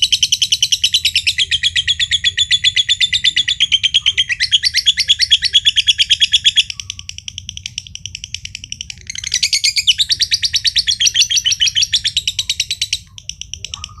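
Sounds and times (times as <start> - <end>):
lovebird chattering trill: 0.0 - 14.0.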